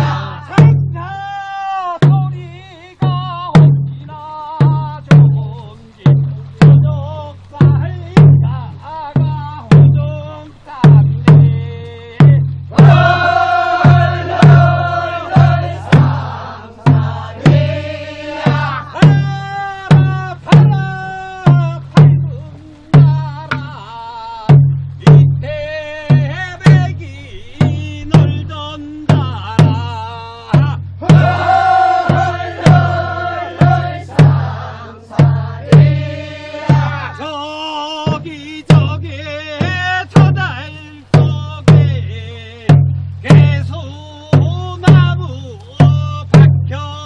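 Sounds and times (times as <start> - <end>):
barrel drum strokes: 0.0 - 1.4, 2.0 - 47.0
voices singing a work song: 0.0 - 47.0.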